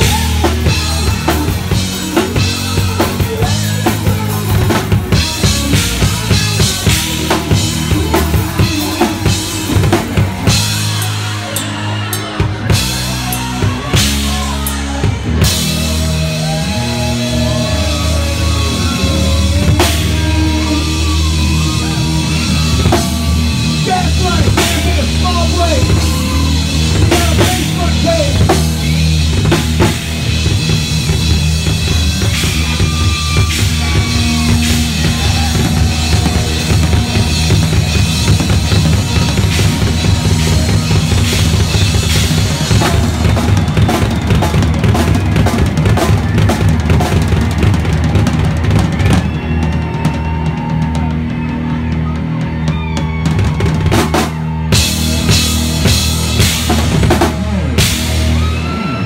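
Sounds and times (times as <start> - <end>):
drum kit beat: 0.0 - 59.0
live rock band playing: 0.0 - 59.0.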